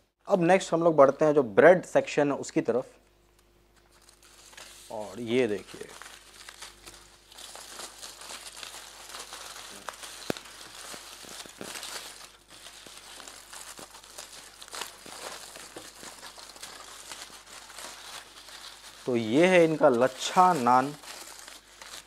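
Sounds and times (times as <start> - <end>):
aluminium foil crinkling: 3.8 - 22.0.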